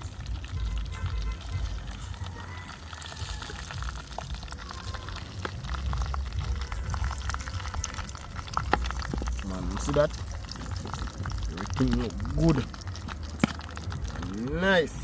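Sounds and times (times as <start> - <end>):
chicken sizzling in pot: 0.0 - 15.0.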